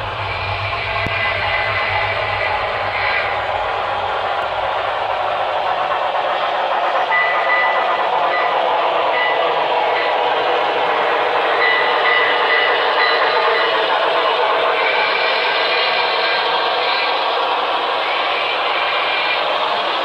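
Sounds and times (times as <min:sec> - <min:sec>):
model train wheels rushing: 0:00.0 - 0:20.0.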